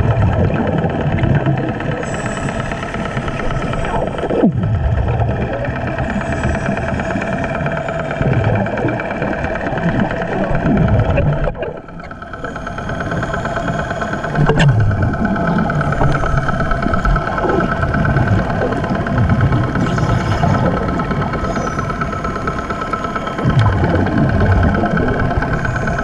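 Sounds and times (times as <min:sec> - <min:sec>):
exhaled bubbles gurgling: 0:00.0 - 0:26.0
motor drone through water: 0:00.0 - 0:26.0.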